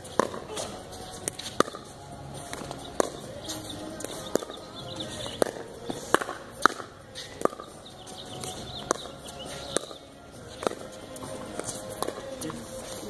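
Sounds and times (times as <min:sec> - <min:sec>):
paddles hitting plastic ball: 0:00.0 - 0:12.6.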